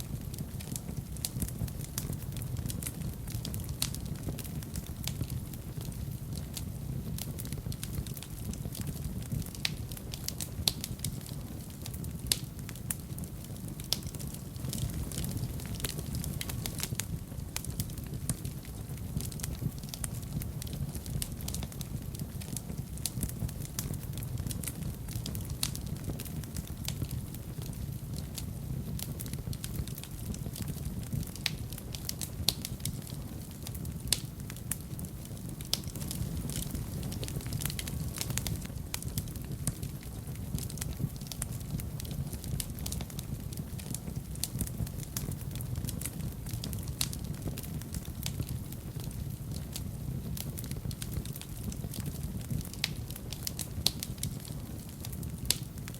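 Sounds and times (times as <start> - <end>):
low roar of flames: 0.0 - 55.9
wood fire crackling: 0.0 - 55.9.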